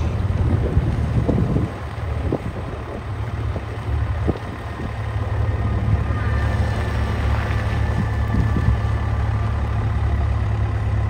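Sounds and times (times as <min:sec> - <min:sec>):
wind noise on microphone: 0:00.0 - 0:09.1
diesel engine rumbling: 0:00.0 - 0:11.0.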